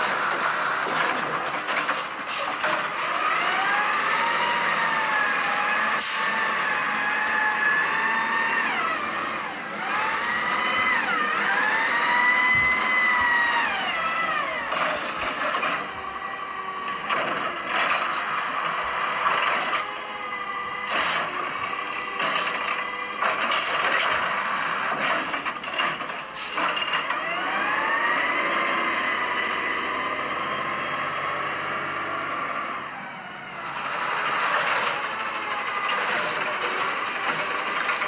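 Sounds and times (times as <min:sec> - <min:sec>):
garbage truck engine whine: 0:00.0 - 0:38.0.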